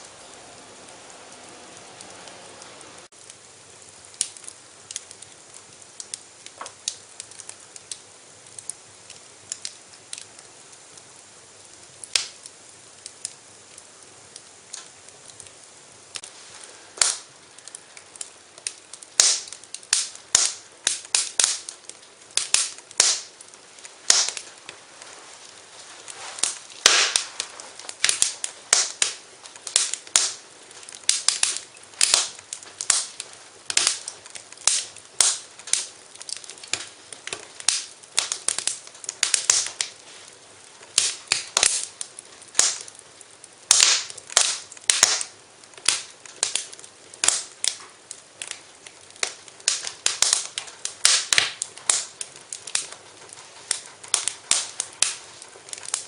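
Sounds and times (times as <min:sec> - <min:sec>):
faint steady hiss: 0:00.0 - 0:56.0
wood fire crackling and popping: 0:00.0 - 0:56.0.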